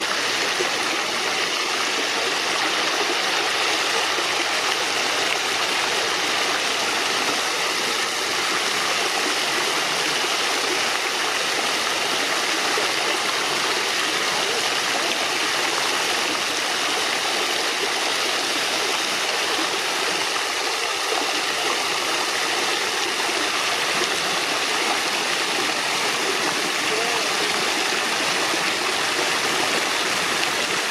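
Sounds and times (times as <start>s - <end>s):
fountain water splashing: 0.0s - 30.9s.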